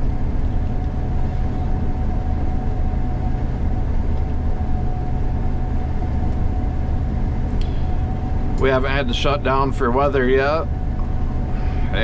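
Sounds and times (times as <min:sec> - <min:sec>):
combine harvester rumble: 0:00.0 - 0:12.0
thin steady whine: 0:00.0 - 0:12.0.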